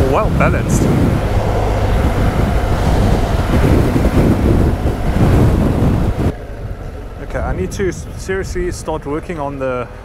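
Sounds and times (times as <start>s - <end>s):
motorcycle engine running: 0.0s - 10.0s
wind rushing over microphone: 0.0s - 10.0s.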